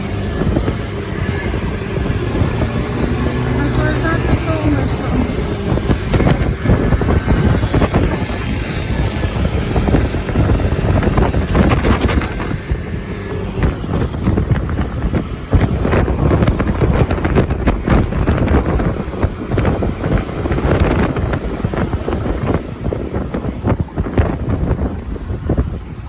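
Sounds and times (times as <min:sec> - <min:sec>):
moped engine running: 0:00.0 - 0:26.0
road noise: 0:00.0 - 0:26.0
wind buffeting microphone: 0:00.0 - 0:26.0.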